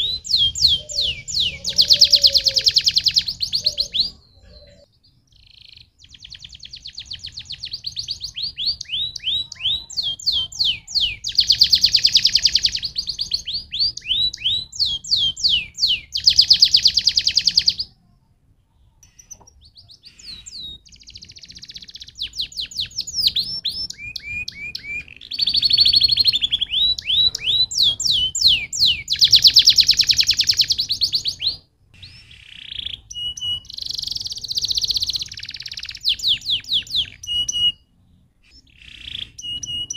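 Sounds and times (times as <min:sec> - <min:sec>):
canary singing trills: 0:00.0 - 0:18.0, 0:18.8 - 0:39.9.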